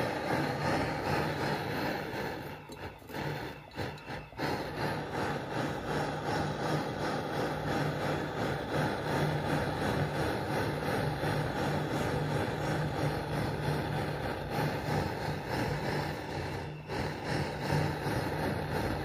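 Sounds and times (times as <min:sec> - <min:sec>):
gas torch flame rushing: 0:00.0 - 0:19.0.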